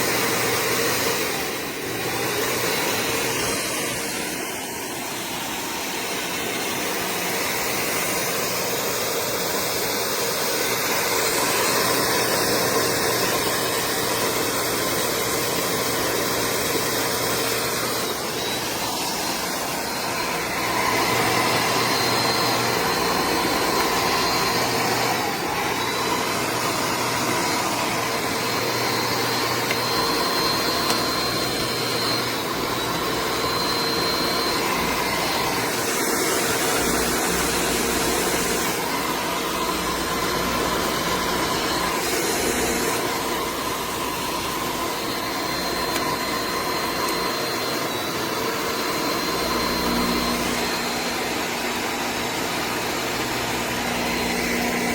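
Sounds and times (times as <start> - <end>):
snow machine blower whine: 0.0 - 54.9.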